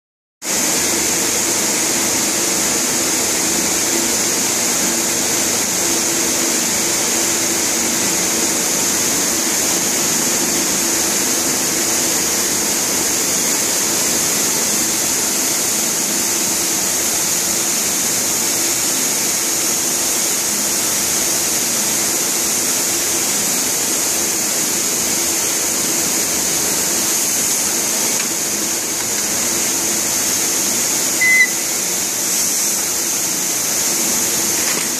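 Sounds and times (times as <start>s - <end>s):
factory machine noise: 0.5s - 34.9s.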